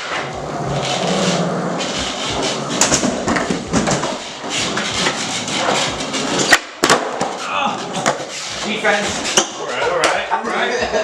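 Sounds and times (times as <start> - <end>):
skateboard wheels rolling: 0.0 - 9.4.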